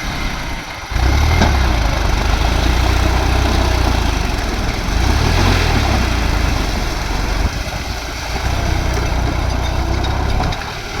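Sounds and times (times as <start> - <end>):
tractor diesel engine rumbling: 0.0 - 11.0.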